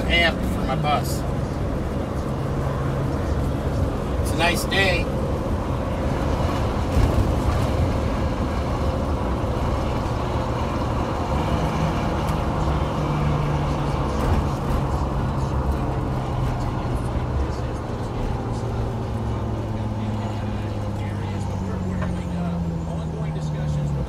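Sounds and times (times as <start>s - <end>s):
bus diesel engine droning: 0.0s - 24.0s
road noise: 0.0s - 24.0s.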